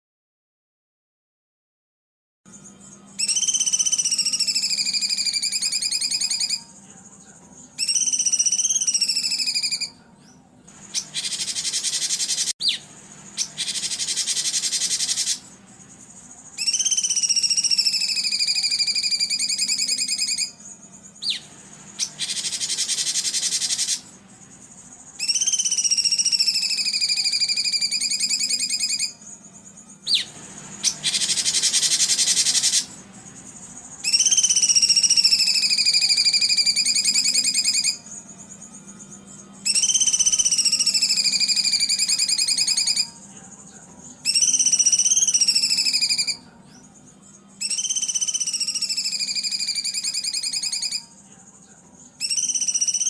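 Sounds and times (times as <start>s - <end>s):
bird rasping notes: 2.5s - 51.2s
faint low hum: 2.5s - 53.0s.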